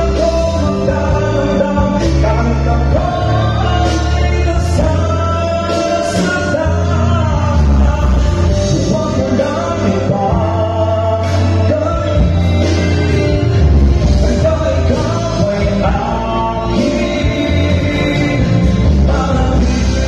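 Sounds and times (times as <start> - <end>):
backing track with bass and drums: 0.0 - 20.0
man singing ballad into microphone: 0.0 - 20.0.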